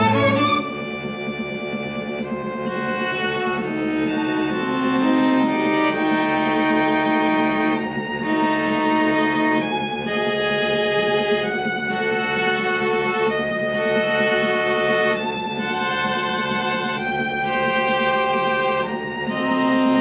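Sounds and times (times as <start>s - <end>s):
cello repeated low notes: 0.0s - 20.0s
string quartet playing: 0.0s - 20.0s
violins holding long notes: 0.0s - 20.0s.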